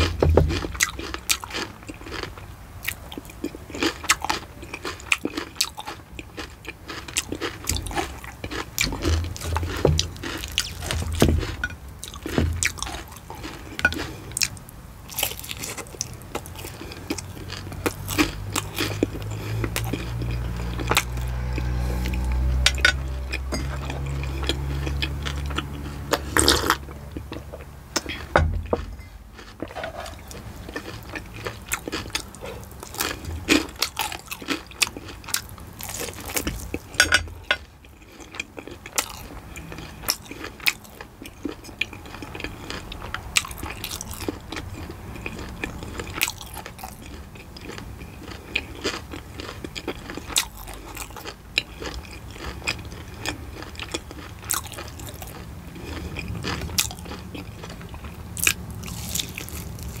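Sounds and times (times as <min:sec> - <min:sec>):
crunchy chewing of fried chicken: 0:00.0 - 1:00.0.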